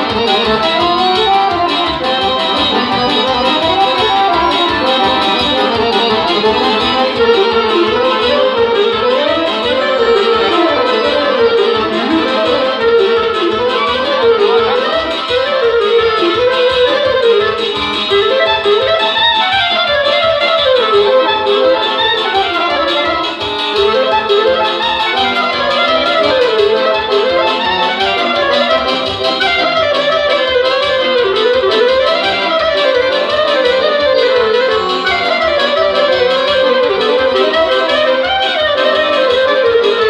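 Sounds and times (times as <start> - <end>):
clarinet melody: 0.0 - 40.0
piano accordion: 0.0 - 40.0
pulsing keyboard beat: 0.0 - 40.0.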